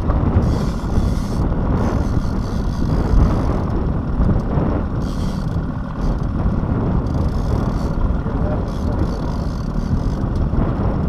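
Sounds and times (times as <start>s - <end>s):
boat motor running: 0.0s - 11.0s
water: 0.0s - 11.0s
wind buffeting microphone: 0.0s - 11.0s.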